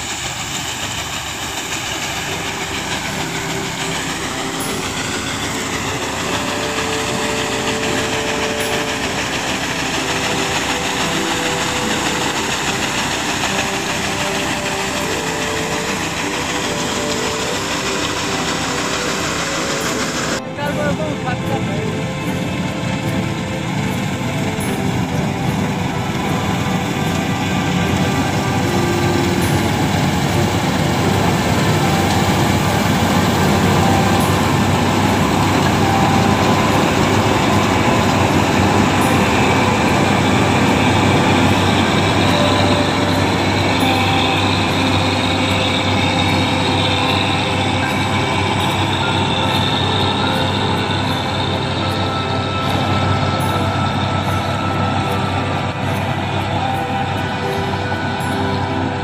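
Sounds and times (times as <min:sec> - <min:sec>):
combine harvester machinery drone: 0:00.0 - 0:59.0
even hiss: 0:00.0 - 0:59.0.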